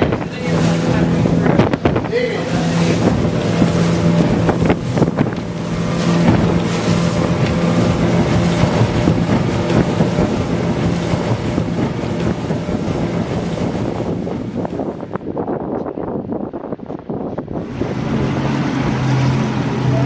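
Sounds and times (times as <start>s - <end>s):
boat engine droning: 0.0s - 15.5s, 17.4s - 20.0s
wind and water rushing: 0.0s - 20.0s.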